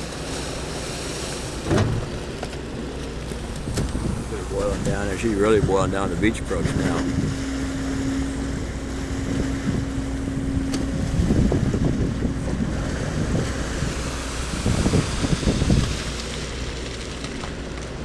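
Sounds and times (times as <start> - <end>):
engine hum: 0.0 - 18.0
floodwater rushing: 0.0 - 18.0
wind buffeting microphone: 1.5 - 18.0.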